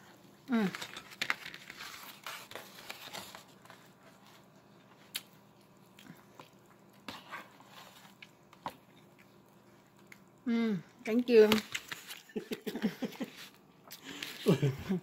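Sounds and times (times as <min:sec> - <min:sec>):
pizza crust crackling: 0:00.0 - 0:10.4, 0:11.1 - 0:14.9.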